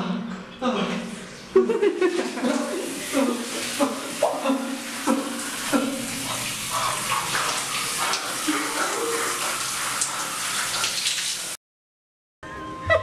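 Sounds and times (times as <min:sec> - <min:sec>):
shower spraying water: 0:01.1 - 0:11.6.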